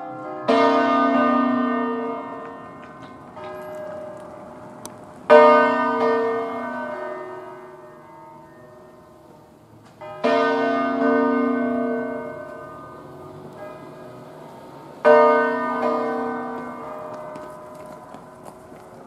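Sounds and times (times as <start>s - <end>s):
large church bell ringing: 0.0s - 19.0s.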